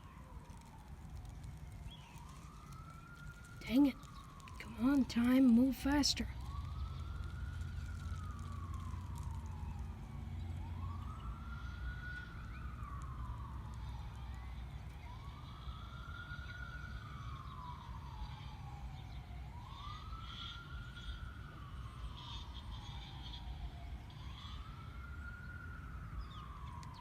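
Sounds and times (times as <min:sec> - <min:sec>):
warning siren wailing: 0:00.0 - 0:27.0.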